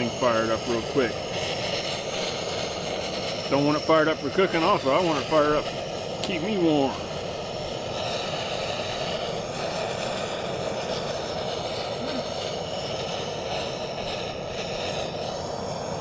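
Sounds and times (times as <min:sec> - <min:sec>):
propane torch flame jet: 0:00.0 - 0:16.0.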